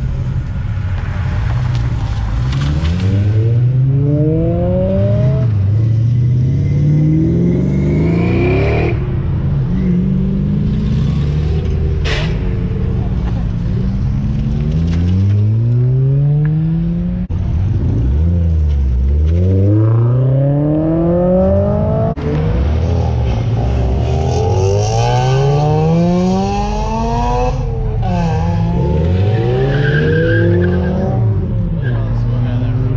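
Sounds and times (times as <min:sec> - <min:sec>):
car engines accelerating: 0:00.0 - 0:32.9.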